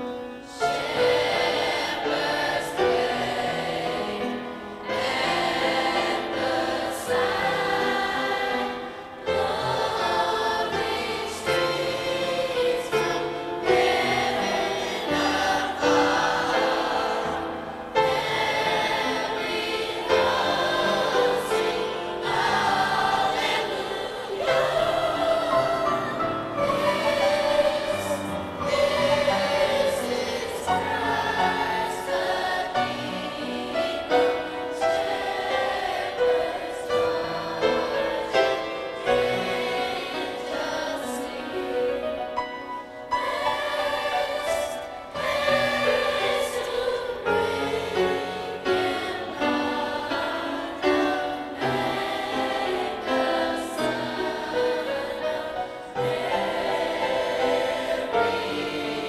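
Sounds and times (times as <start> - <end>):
choir singing: 0.0 - 59.0
upright piano: 0.0 - 59.0.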